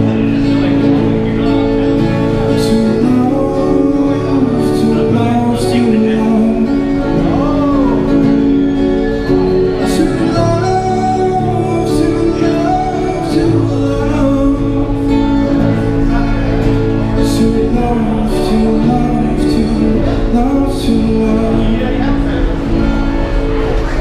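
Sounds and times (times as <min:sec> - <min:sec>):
man singing into a microphone: 0:00.0 - 0:23.2
amplified acoustic guitar strumming: 0:00.0 - 0:24.0.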